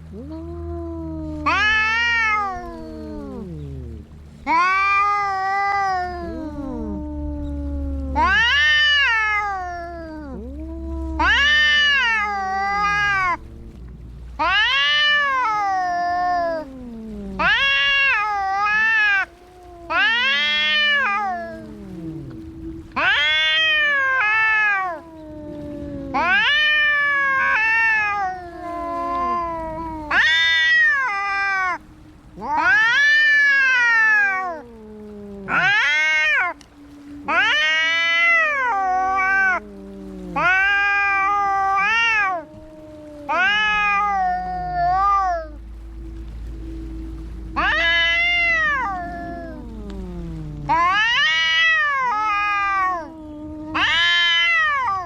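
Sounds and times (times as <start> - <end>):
cats yowling in a fight: 0.0 - 13.8, 14.4 - 31.8, 32.4 - 55.0
faint low hum: 0.0 - 55.0.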